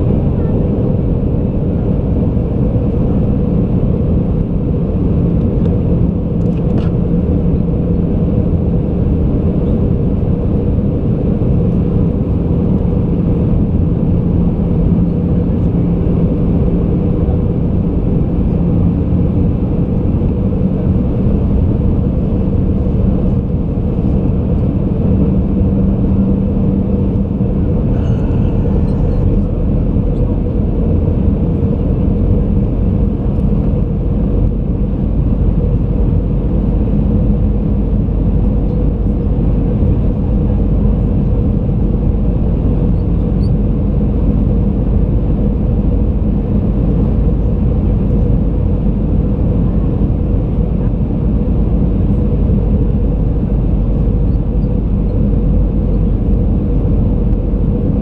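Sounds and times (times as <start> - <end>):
airplane cabin engine rumble: 0.0 - 58.0
low hum: 0.0 - 58.0.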